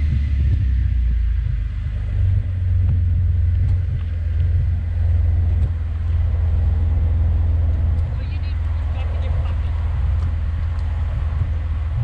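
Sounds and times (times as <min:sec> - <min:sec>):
utility vehicle engine idling: 0:00.0 - 0:12.0.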